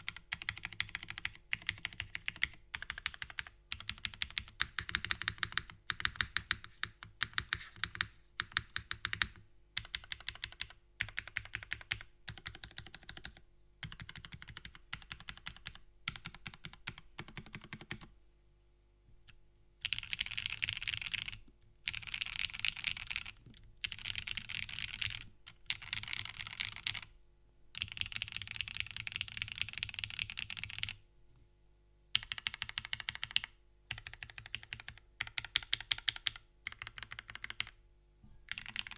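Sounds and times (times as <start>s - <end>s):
mechanical keyboard typing: 0.0s - 18.1s, 19.8s - 27.1s, 27.8s - 31.0s, 32.2s - 37.8s, 38.5s - 38.9s.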